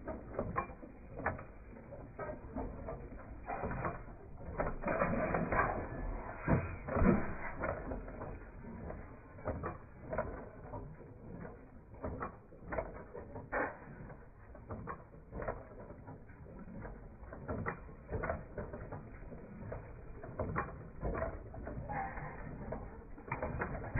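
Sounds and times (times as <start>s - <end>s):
machinery clicks and knocks: 0.0s - 23.9s.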